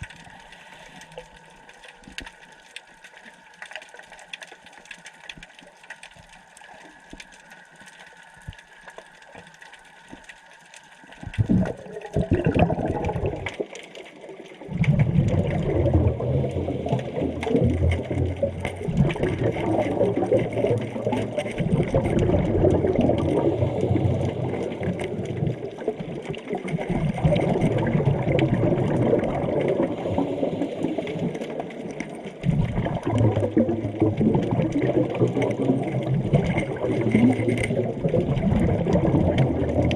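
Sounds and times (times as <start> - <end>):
rushing water: 0.0 - 39.9
underwater bubbles gurgling: 0.0 - 39.9.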